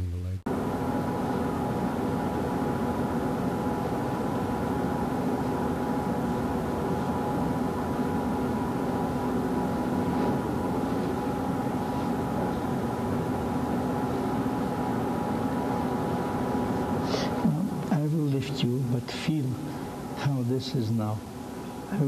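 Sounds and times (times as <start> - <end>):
videotape hum and hiss: 0.0 - 22.0.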